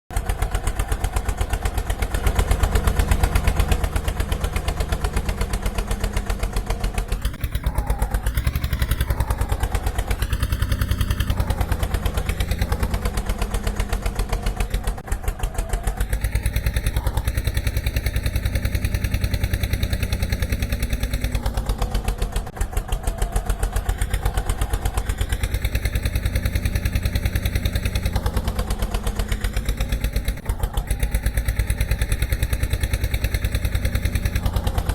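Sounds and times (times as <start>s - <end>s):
road roller engine chugging: 0.1s - 34.9s.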